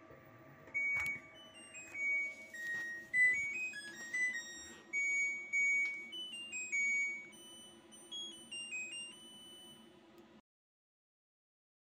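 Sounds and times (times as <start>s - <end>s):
washing machine beeper melody: 0.3s - 10.1s.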